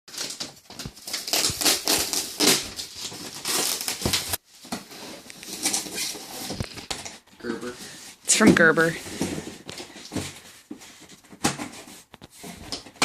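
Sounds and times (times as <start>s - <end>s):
cardboard and paper rustling: 0.1s - 13.0s.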